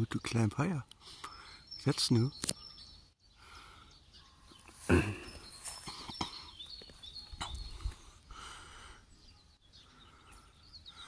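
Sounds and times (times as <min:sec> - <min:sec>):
outdoor background noise: 0:00.0 - 0:11.0
small birds chirping: 0:00.0 - 0:11.0.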